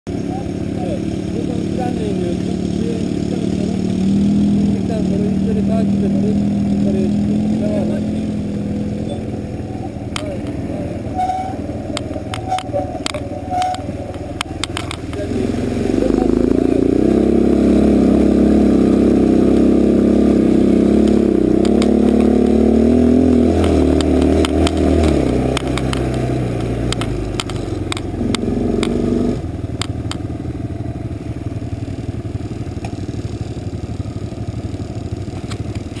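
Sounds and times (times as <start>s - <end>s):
quad bike engine revving: 0.1s - 36.0s.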